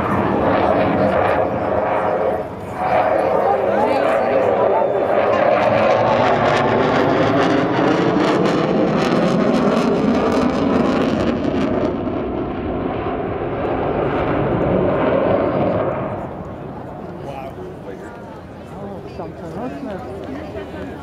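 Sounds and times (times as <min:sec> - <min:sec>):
fighter jet flying overhead: 0:00.0 - 0:21.0.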